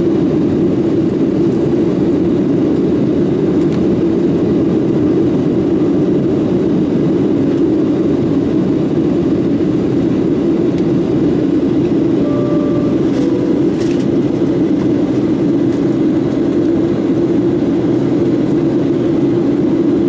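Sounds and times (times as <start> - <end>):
airplane cabin jet engine drone: 0.0 - 20.0.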